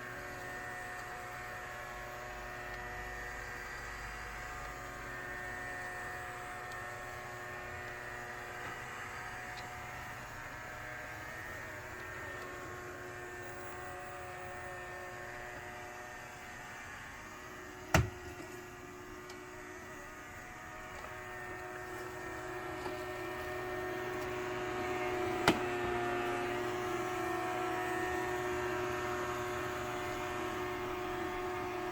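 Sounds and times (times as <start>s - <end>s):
robot vacuum motor humming: 0.0s - 31.9s.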